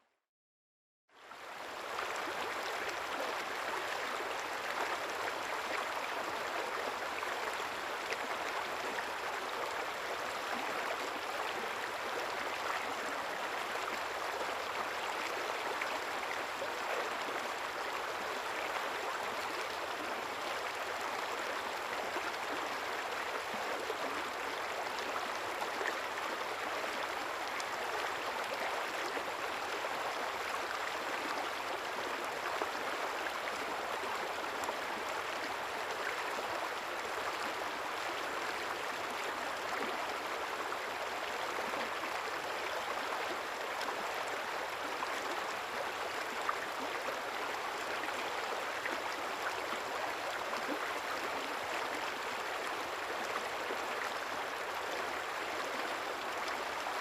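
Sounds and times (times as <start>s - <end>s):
river water babbling: 1.2s - 57.0s.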